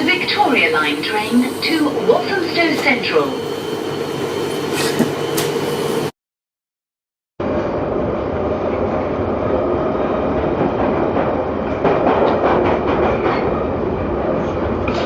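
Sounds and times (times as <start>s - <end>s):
train rumble and rail noise: 0.0s - 6.1s, 7.4s - 15.0s.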